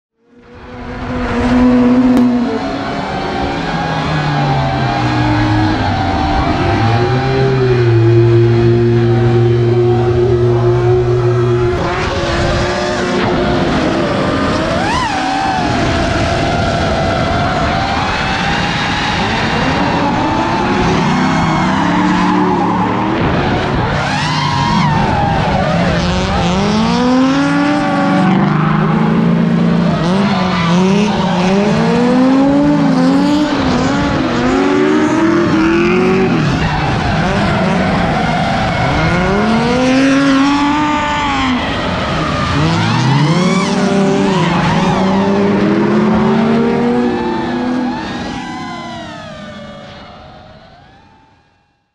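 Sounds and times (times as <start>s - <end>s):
car engines revving: 0.2s - 51.3s
constant loud rush: 0.3s - 51.4s
tyres squealing and skidding: 1.5s - 49.9s.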